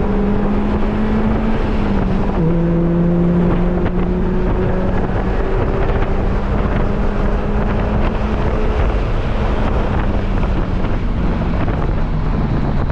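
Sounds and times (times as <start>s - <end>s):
car engine humming: 0.0s - 12.9s
wind buffeting microphone: 0.0s - 12.9s.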